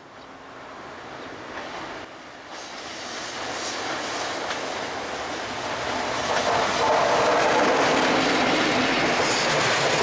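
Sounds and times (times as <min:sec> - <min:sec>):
train approaching: 0:00.0 - 0:10.0.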